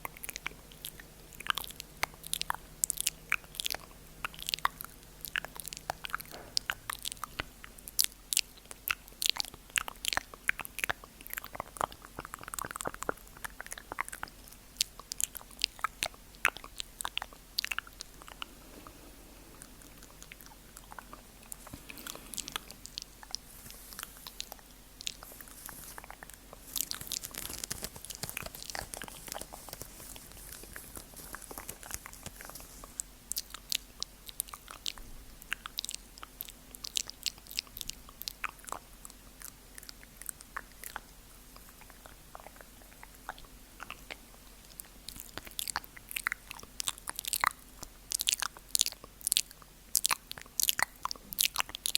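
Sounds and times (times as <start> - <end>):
soft hissy wet mouth sounds: 0.0 - 51.9
wet mouth clicks and smacks: 0.1 - 19.0, 19.6 - 51.9.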